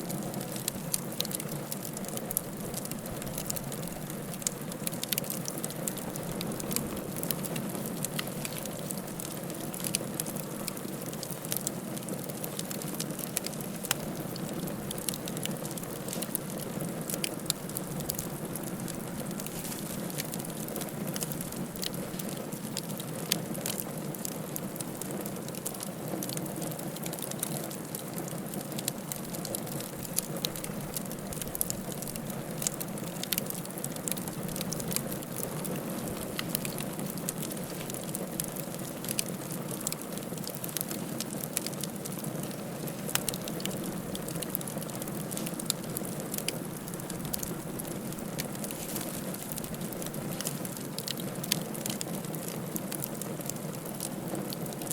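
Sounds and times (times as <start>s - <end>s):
wood fire popping and snapping: 0.0s - 54.9s.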